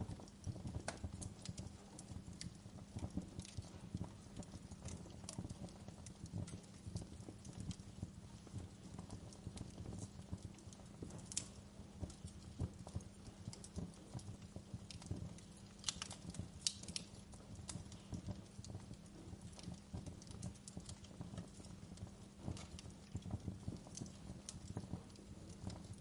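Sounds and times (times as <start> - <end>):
fire pops and snaps: 0.0 - 26.0
flames rumbling: 0.0 - 26.0
wood fire crackling: 0.0 - 26.0.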